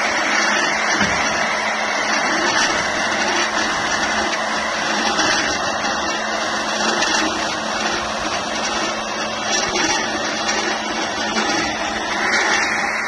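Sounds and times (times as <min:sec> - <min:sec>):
magnetic drill drilling into pipe: 0:00.0 - 0:13.0.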